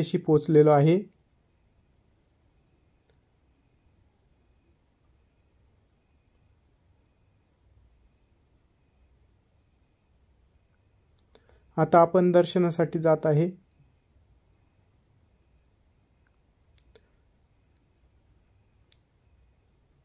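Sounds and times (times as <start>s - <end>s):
crickets trilling: 0.0s - 20.0s
soft low insect chirp: 0.0s - 20.0s.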